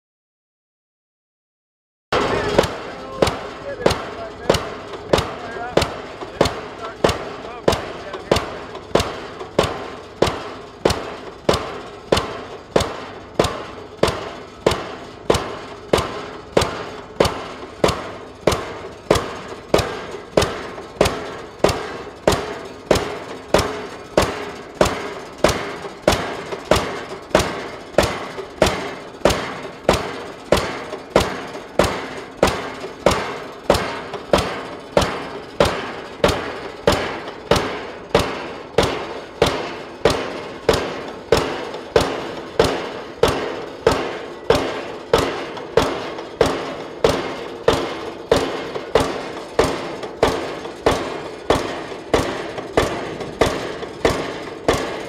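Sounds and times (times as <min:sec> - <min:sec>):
diesel pile hammer banging: 0:02.1 - 0:55.0.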